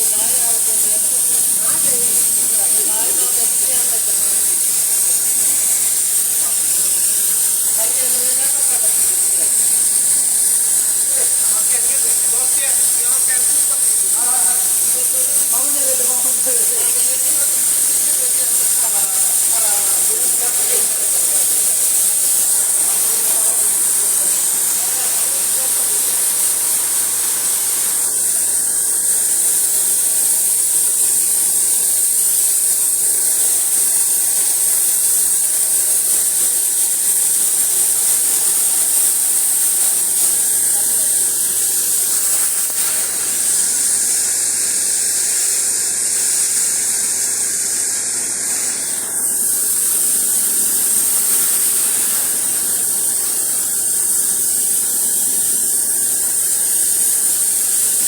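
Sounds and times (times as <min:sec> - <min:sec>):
pressure washer spraying water: 0:00.0 - 0:58.0.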